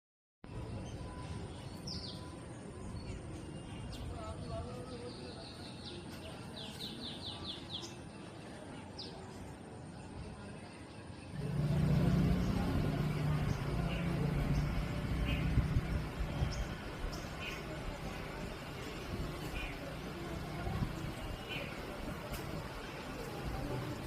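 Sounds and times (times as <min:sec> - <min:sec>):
outdoor background rumble and hiss: 0:00.5 - 0:24.0.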